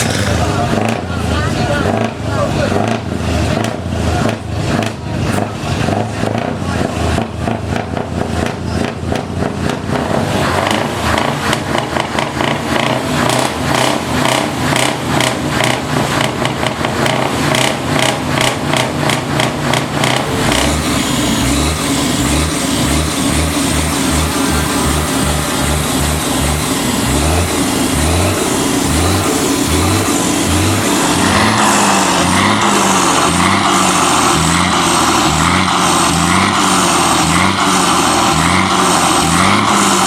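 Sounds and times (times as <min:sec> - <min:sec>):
truck diesel engines revving: 0:00.0 - 0:40.0.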